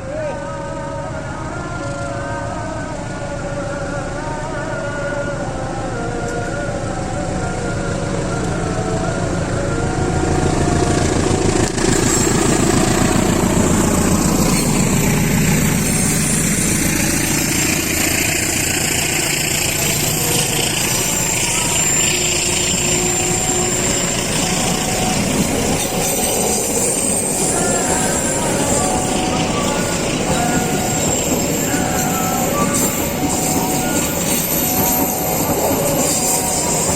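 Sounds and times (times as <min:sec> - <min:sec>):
heavy engine running: 0:00.0 - 0:36.9.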